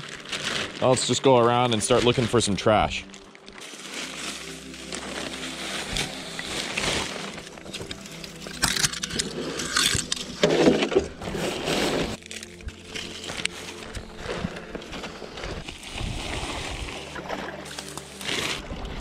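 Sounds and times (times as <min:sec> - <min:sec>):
dry brush rustling and scraping: 0:00.0 - 0:19.0
plastic and paper crinkling: 0:00.0 - 0:19.0.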